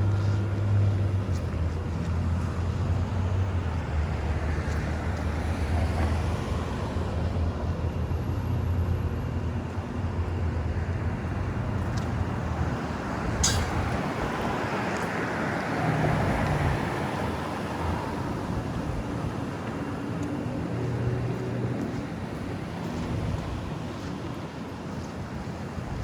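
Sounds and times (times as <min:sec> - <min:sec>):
low rumble of traffic: 0:00.0 - 0:26.0.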